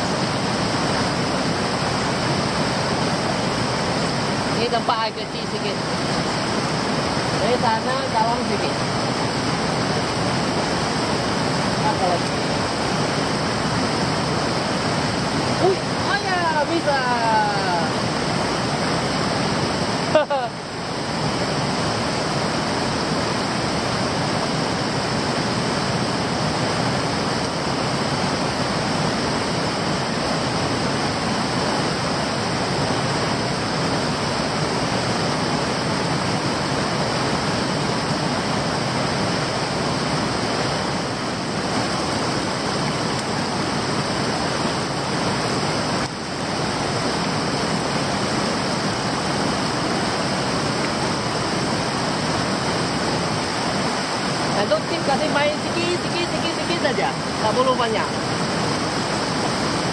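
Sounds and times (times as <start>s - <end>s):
flowing stream water: 0.0s - 59.9s.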